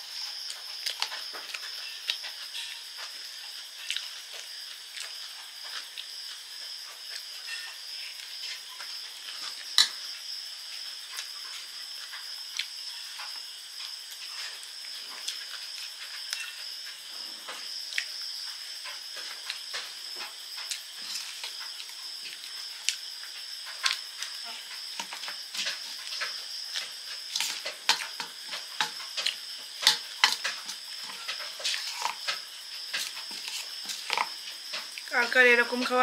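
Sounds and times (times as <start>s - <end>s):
crunchy chewing: 0.0s - 35.1s.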